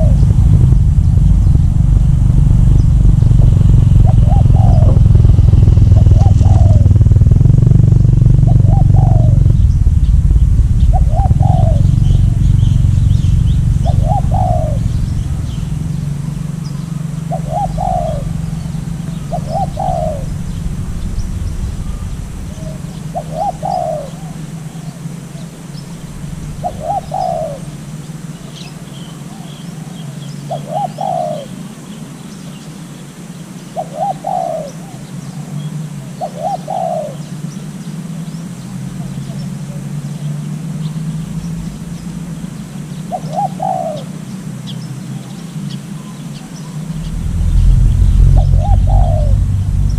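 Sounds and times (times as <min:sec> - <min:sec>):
low hum: 0:00.0 - 0:30.6, 0:37.3 - 0:49.9
motorcycle engine running: 0:00.0 - 0:30.7, 0:36.9 - 0:49.9
dove cooing: 0:00.0 - 0:31.7, 0:33.8 - 0:37.8, 0:38.9 - 0:49.9
small birds chirping: 0:00.0 - 0:49.9.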